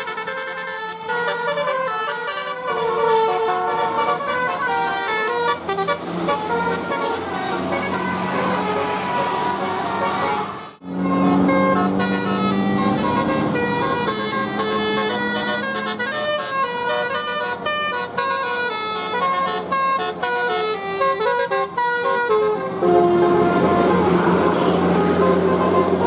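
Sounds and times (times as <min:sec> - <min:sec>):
bus horn playing melody: 0:00.0 - 0:26.0.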